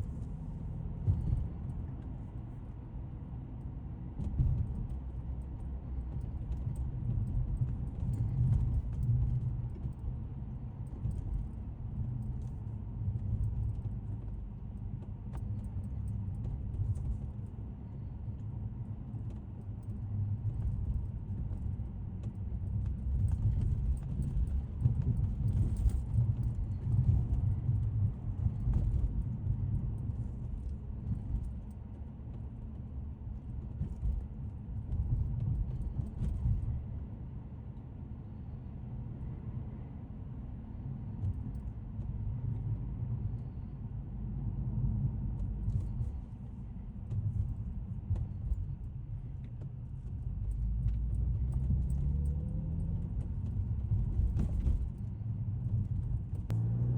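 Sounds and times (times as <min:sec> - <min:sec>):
car engine rumble: 0:00.0 - 0:56.9
road noise: 0:00.0 - 0:56.9.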